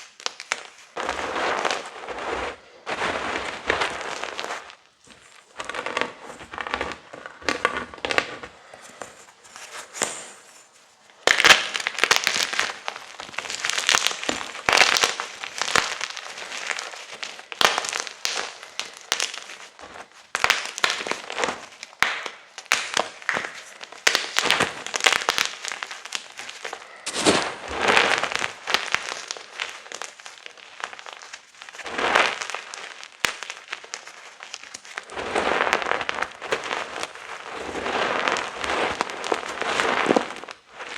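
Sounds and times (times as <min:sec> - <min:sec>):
chalk crunching and crumbling: 0:00.0 - 0:40.9.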